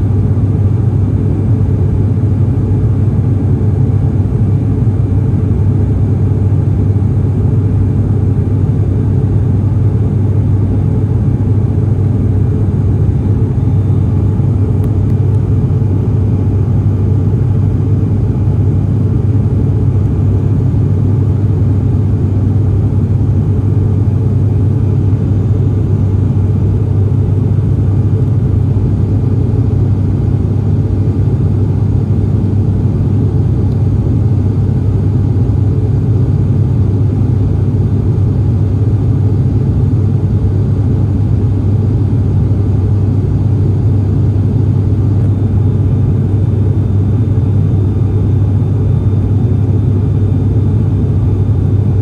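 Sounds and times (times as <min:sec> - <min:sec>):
propeller aircraft cabin drone: 0:00.0 - 0:52.0.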